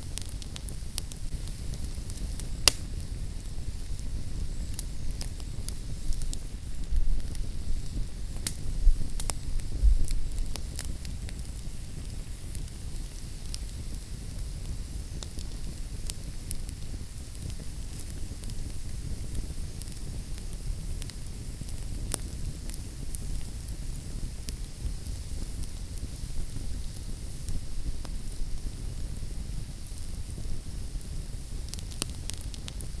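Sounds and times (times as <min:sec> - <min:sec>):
low rumble and hiss: 0:00.0 - 0:33.0
wood fire crackling: 0:00.0 - 0:33.0.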